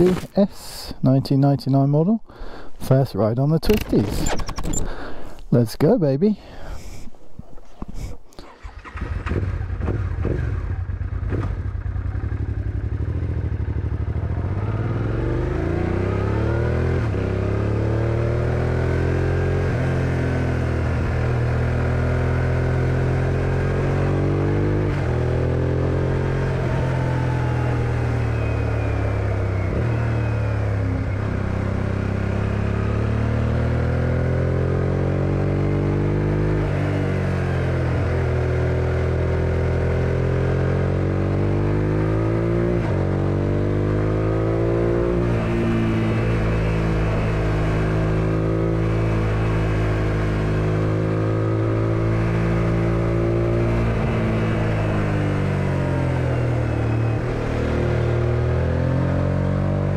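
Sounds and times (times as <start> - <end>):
motorcycle engine accelerating: 8.4 - 59.9.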